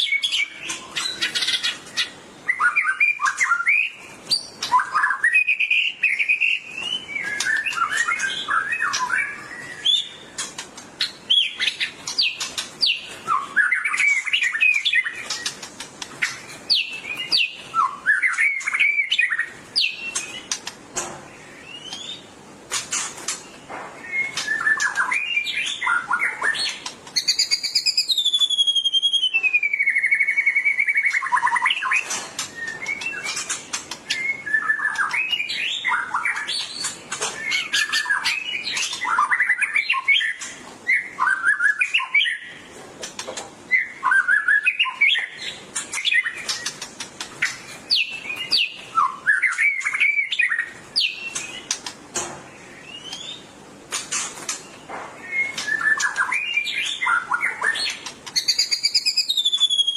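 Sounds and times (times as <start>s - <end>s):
bird singing whistles and chatters: 0.0s - 20.7s, 22.9s - 51.9s, 52.7s - 59.9s.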